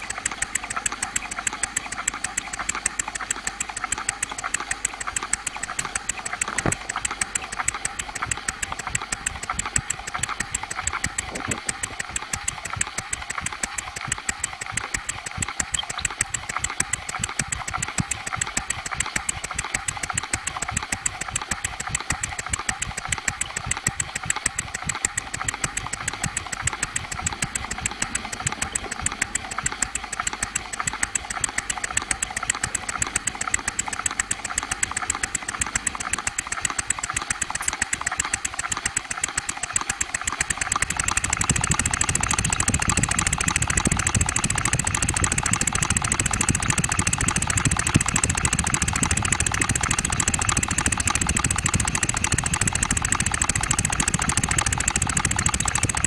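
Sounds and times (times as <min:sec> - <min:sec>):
model steam engine running: 0:00.0 - 0:56.0.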